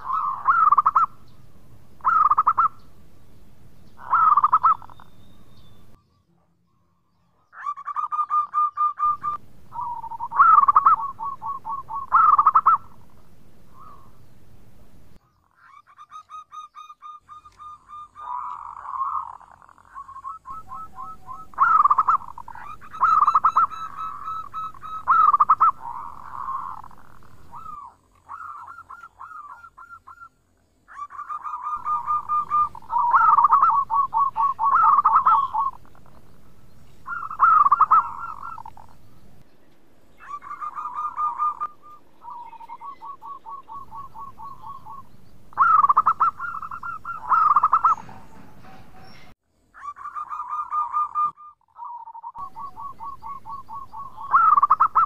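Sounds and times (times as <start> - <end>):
dove cooing in rolling notes: 0.0 - 2.9, 3.8 - 6.0, 7.4 - 39.3, 40.1 - 55.0.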